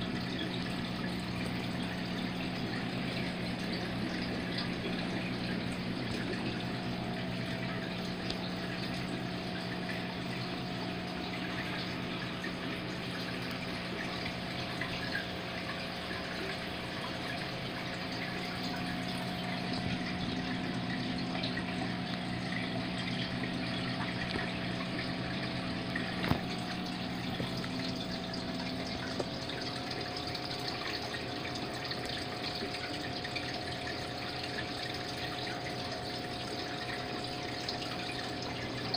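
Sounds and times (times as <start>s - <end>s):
aquarium water trickling: 0.0s - 38.9s
low pump hum: 0.0s - 38.9s.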